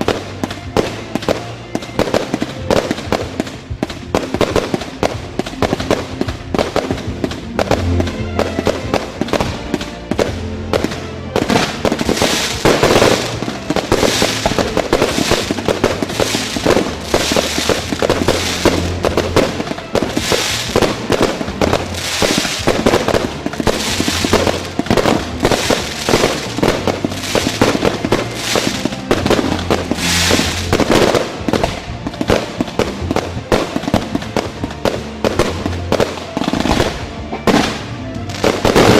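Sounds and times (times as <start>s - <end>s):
fireworks shots and crackling: 0.0s - 38.9s
music with bass line: 0.0s - 38.9s.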